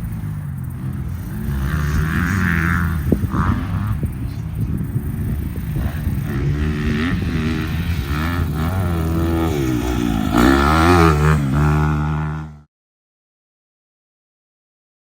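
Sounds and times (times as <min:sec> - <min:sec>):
dirt bike engine revving: 0:00.0 - 0:12.7.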